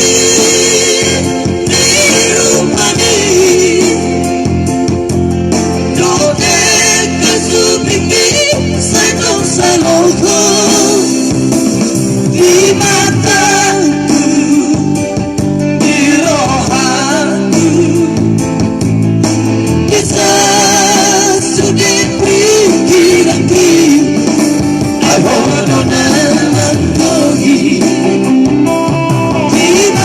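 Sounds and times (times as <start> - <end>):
vocal trio singing in harmony: 0.0 - 18.5, 19.6 - 30.0
instrumental backing: 0.0 - 30.0.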